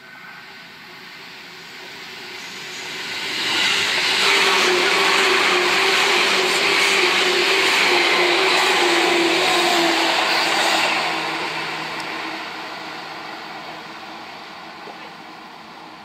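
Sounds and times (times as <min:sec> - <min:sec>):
train wheels rushing on rail: 0:00.0 - 0:16.0.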